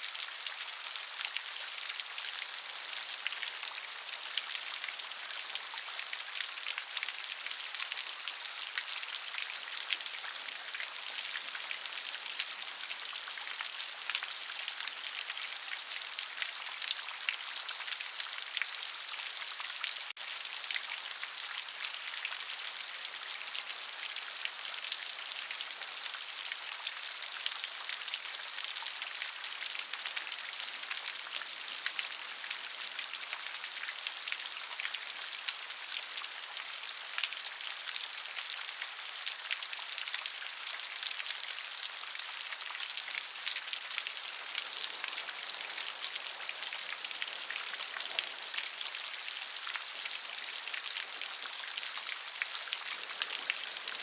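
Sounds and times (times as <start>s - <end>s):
steady rain patter: 0.0s - 54.0s.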